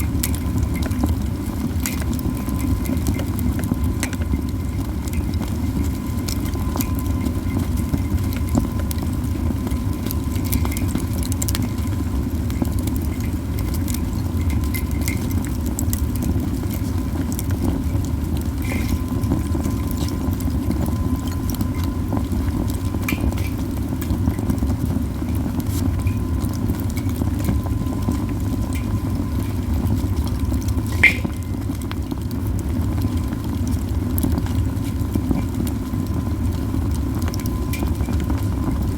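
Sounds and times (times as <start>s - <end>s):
low fire rumble: 0.0s - 38.9s
pine cones crackling in fire: 0.0s - 38.9s.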